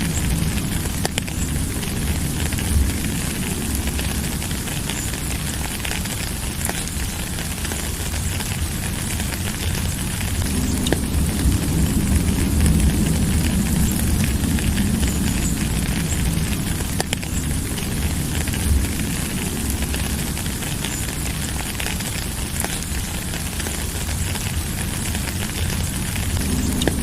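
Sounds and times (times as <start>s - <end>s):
deep low rumble: 0.0s - 27.0s
sharp drip ticks: 0.0s - 27.0s
steady rain hiss: 0.0s - 27.0s.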